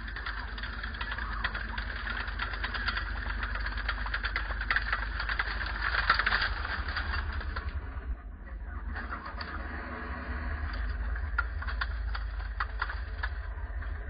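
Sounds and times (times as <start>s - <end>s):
low engine drone: 0.0s - 14.0s
tracks clicking and clattering: 0.0s - 14.0s.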